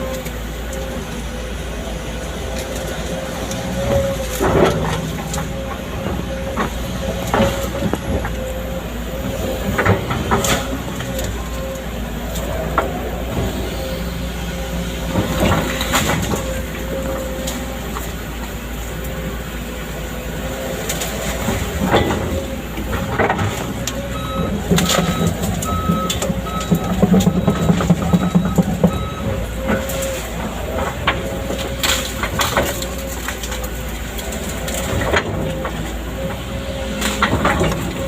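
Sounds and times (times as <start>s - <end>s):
excavator diesel engine: 0.0s - 38.0s.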